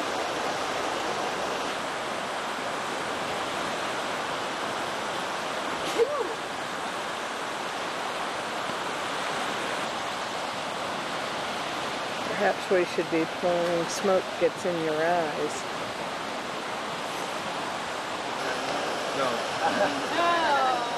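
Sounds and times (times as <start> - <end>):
river rushing: 0.0 - 20.9.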